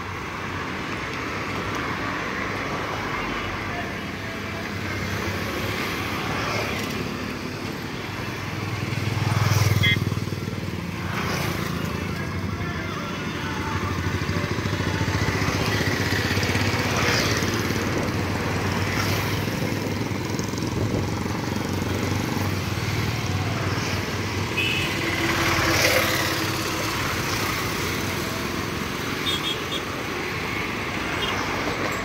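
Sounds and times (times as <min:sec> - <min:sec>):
motorbike engines: 0:00.0 - 0:32.0.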